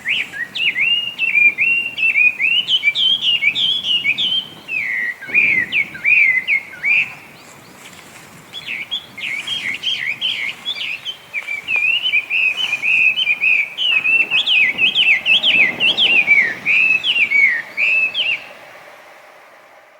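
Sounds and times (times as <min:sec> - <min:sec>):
bird singing whistled phrases: 0:00.0 - 0:07.4, 0:08.6 - 0:18.6.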